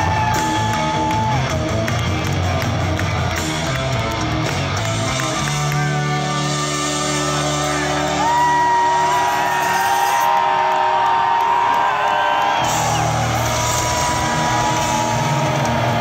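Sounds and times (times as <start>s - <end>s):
live hard rock band: 0.0s - 16.0s.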